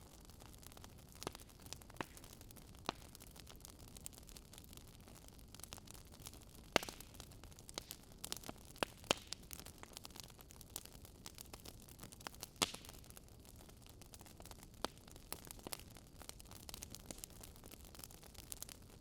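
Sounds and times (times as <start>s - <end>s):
burning logs crackling: 0.0s - 19.0s.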